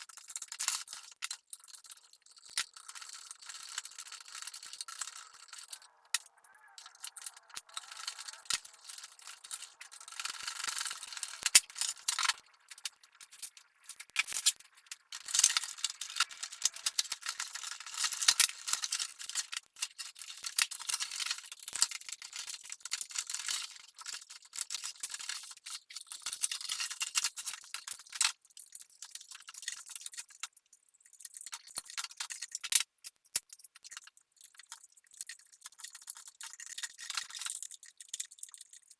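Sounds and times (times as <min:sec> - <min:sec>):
small hard parts clicking and rattling: 0:00.0 - 0:38.9.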